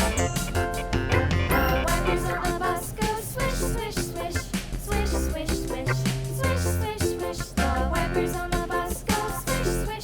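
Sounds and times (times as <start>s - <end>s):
upbeat children's instrumental music: 0.0s - 10.0s.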